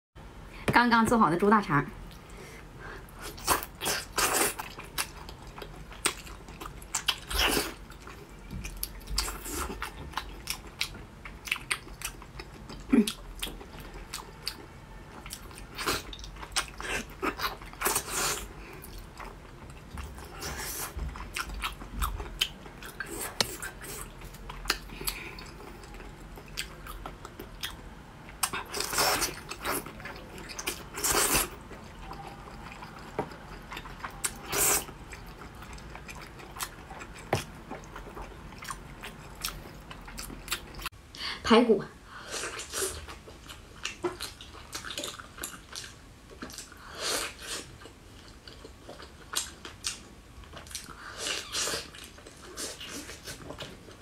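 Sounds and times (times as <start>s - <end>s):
biting and wet chewing: 3.2s - 40.9s, 42.5s - 54.0s.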